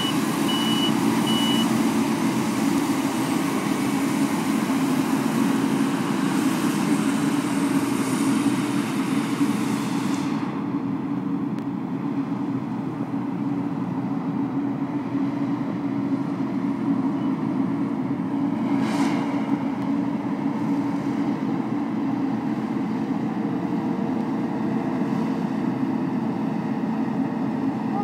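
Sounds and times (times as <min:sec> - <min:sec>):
combine harvester droning: 0:00.0 - 0:28.0.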